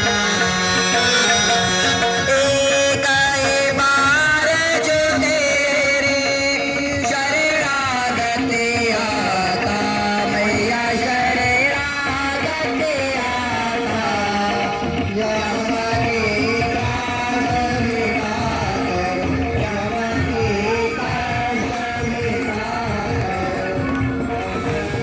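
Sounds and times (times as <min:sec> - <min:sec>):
drum accompaniment: 0:00.0 - 0:25.0
person singing devotional melody: 0:00.0 - 0:25.0.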